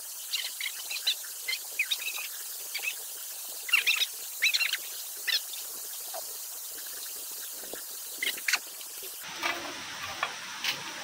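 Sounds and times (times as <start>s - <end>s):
small waterfall rushing: 0.0s - 11.0s
birds chirping: 0.2s - 9.2s.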